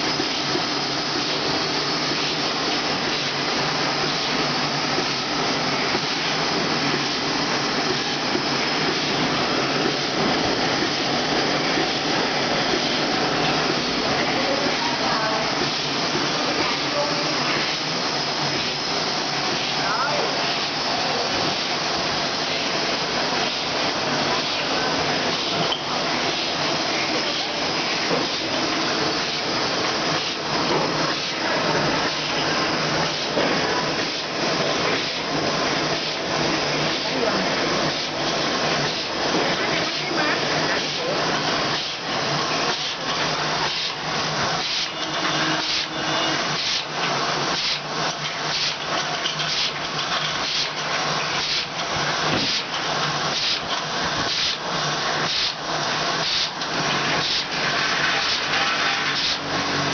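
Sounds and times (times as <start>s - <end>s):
filling machine running: 0.0s - 59.9s.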